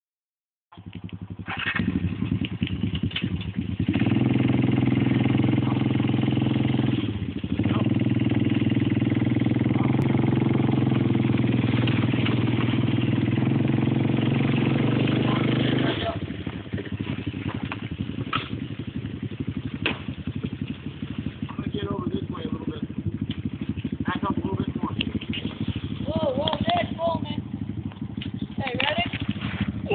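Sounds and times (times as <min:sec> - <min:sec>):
atv engine revving: 0:00.7 - 0:29.9.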